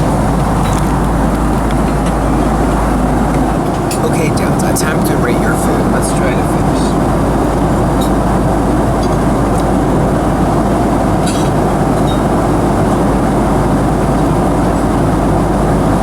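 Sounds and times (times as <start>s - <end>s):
jet engine roar in airliner cabin: 0.0s - 16.0s.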